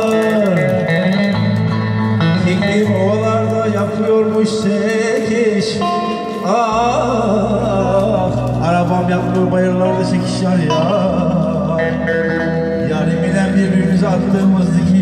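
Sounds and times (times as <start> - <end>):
electronic keyboard folk dance music: 0.0 - 15.0.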